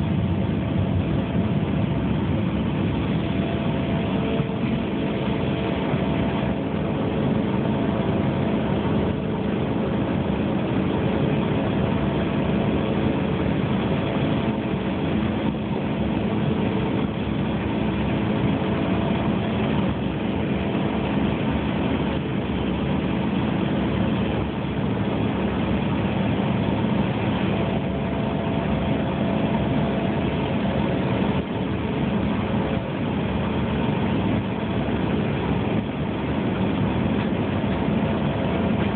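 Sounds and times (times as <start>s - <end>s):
jet cabin engine drone: 0.0s - 38.9s.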